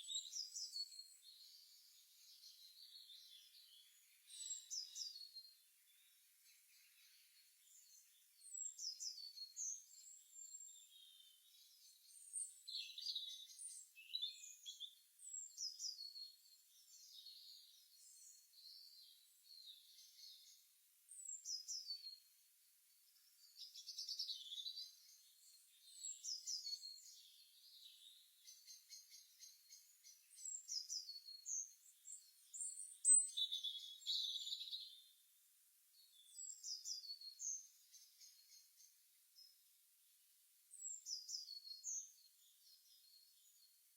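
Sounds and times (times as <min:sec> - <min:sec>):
songbirds singing and chirping: 0:00.0 - 0:43.9.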